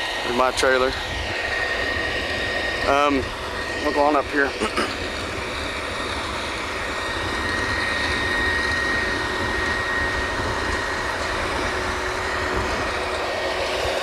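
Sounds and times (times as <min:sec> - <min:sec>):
drilling rig machinery: 0:00.0 - 0:14.0
high-pitched whine: 0:00.0 - 0:14.0.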